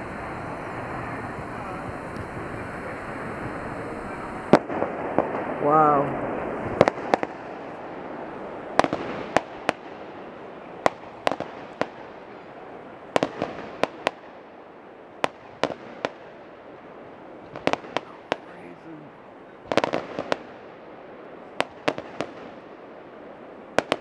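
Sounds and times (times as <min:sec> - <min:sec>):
fireworks bangs: 0:00.0 - 0:24.0
steady hiss: 0:00.0 - 0:24.0.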